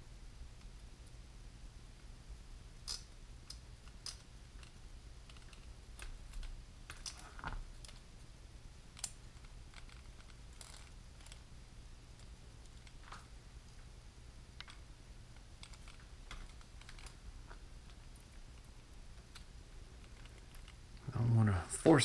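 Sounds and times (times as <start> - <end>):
faint low steady hum: 0.0 - 22.0.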